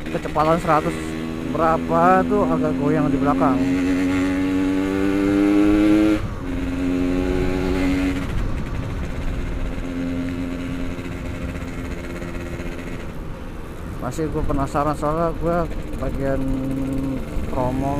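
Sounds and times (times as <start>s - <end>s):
low wind rumble: 0.0s - 17.9s
two-stroke motorcycle engine: 0.0s - 17.9s.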